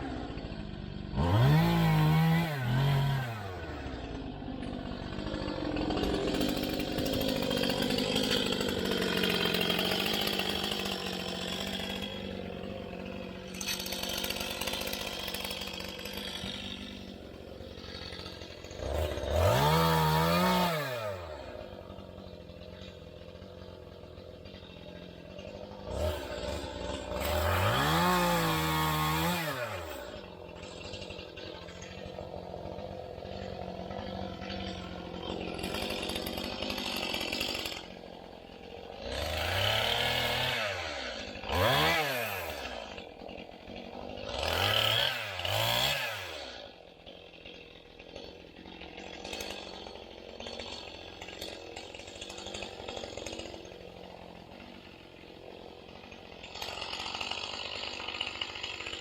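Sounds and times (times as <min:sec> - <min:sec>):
engine idling and revving: 0:00.0 - 0:59.0.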